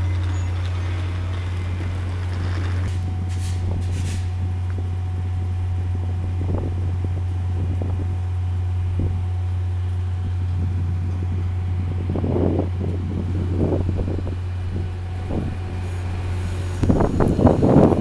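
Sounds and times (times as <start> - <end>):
diesel locomotive idling: 0.0 - 18.0
wind buffeting microphone: 0.0 - 18.0.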